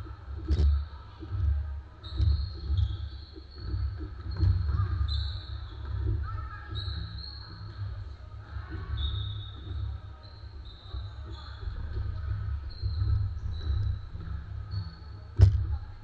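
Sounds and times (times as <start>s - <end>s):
sneakers squeaking on floor: 0.3s - 16.0s.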